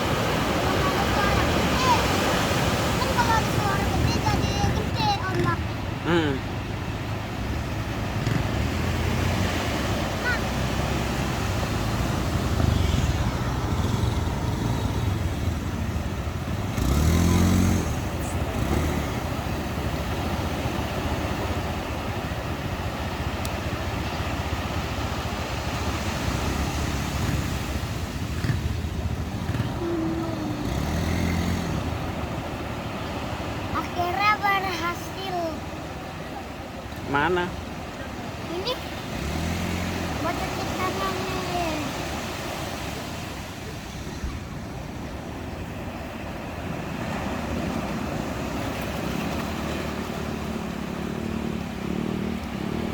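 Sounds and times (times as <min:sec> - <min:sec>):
ocean surf washing onto beach: 0:00.0 - 0:52.9.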